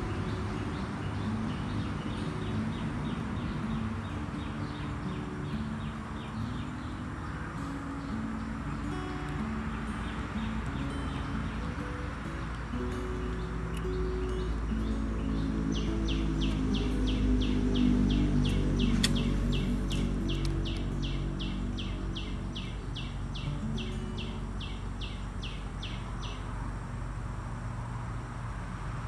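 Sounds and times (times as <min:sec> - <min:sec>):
background music with low notes: 0:00.0 - 0:27.6.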